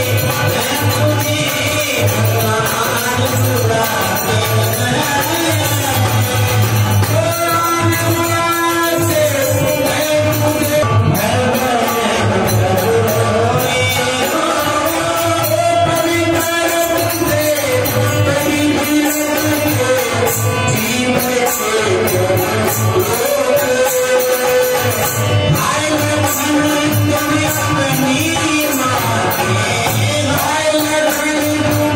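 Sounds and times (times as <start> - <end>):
devotional singing: 0.0 - 31.9
steady drum beat: 0.0 - 31.9.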